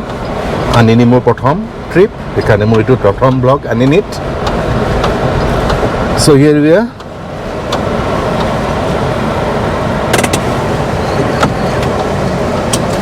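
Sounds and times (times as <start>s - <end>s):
car running and tyre noise: 0.0s - 13.0s.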